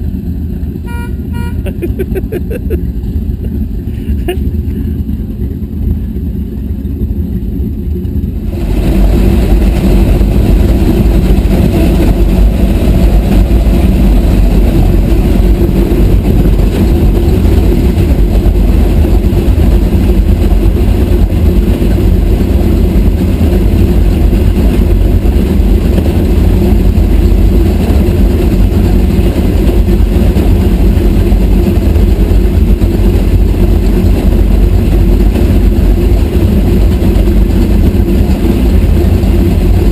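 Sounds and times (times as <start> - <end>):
boat engines running: 0.0 - 39.9.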